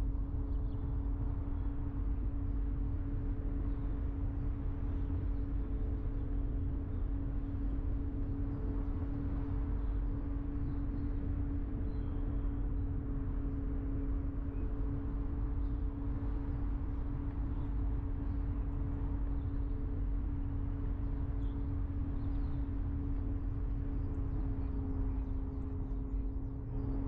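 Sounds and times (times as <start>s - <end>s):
droning hum: 0.0s - 27.0s.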